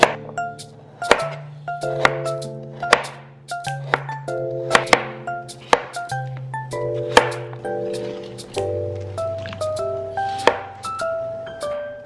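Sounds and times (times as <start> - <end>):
instrumental melody: 0.0 - 12.0.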